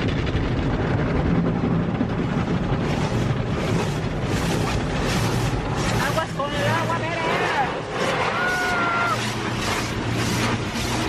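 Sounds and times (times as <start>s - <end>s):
car wash water spraying: 2.0s - 11.0s.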